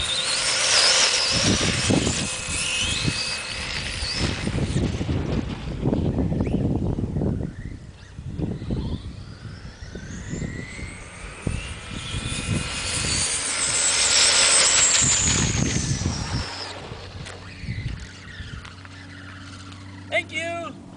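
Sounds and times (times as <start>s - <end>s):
wind on microphone: 0.0s - 20.0s
electric motor whine: 0.0s - 20.1s.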